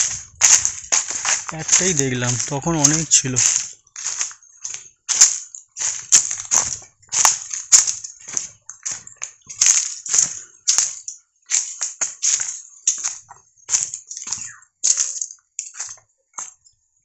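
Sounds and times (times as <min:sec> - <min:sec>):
footsteps crunching on a trail: 0:00.0 - 0:16.7.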